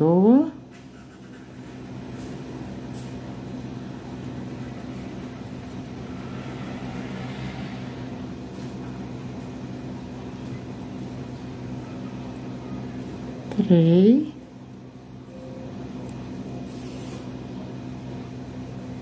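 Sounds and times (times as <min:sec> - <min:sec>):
machine humming: 0:00.6 - 0:16.7.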